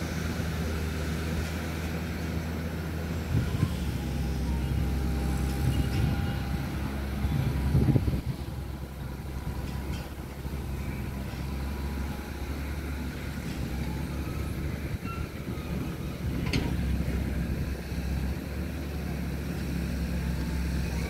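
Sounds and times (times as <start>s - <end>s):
electric locomotive hum and rumble: 0.0s - 21.0s.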